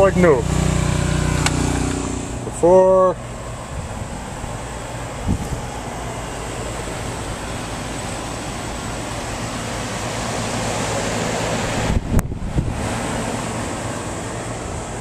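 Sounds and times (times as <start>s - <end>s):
pressure washer motor hum: 0.0s - 15.0s.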